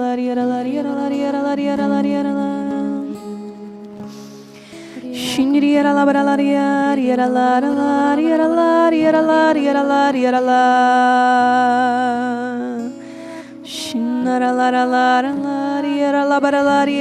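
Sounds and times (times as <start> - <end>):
person singing slowly: 0.0 - 17.0
soft sustained accompaniment: 0.0 - 17.0.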